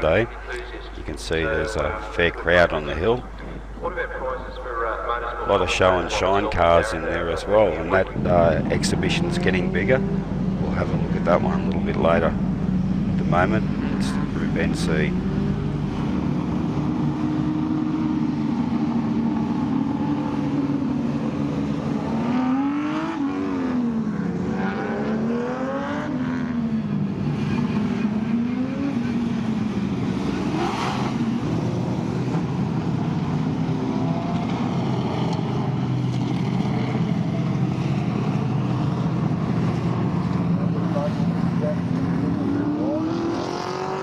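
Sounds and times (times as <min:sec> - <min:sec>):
engines revving: 0:00.0 - 0:44.0
racing car engines droning: 0:00.0 - 0:44.0.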